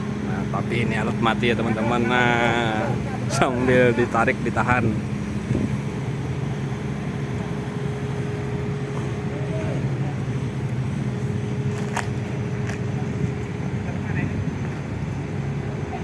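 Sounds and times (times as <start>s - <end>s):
diesel engine running: 0.0s - 16.0s
thin steady whine: 0.0s - 16.0s.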